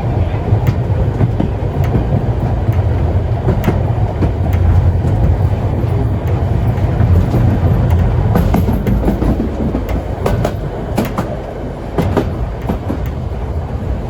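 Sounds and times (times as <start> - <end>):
train carriages rumbling on track: 0.0 - 14.0
wheels clicking and knocking on rails: 0.0 - 14.0.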